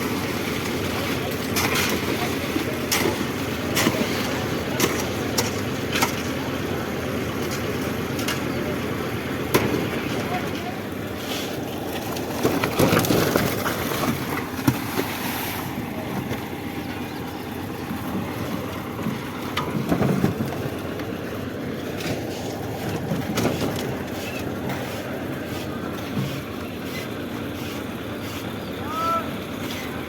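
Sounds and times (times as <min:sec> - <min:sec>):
concrete mixer running: 0:00.0 - 0:30.0.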